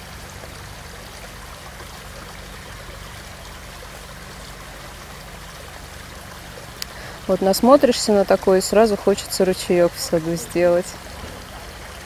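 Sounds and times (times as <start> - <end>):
brook running over pebbles: 0.0 - 12.0.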